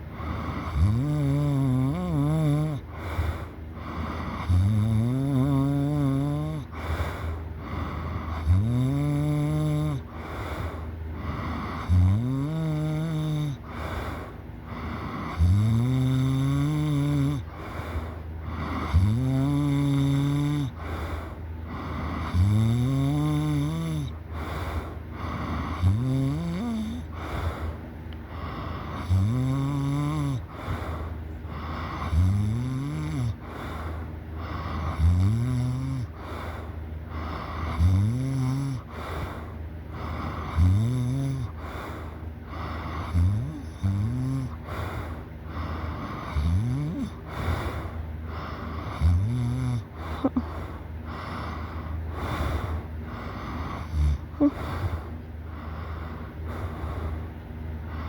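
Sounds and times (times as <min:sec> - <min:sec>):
person snoring loudly: 0:00.0 - 0:27.7, 0:28.3 - 0:57.1
steady low hum: 0:00.0 - 0:58.0.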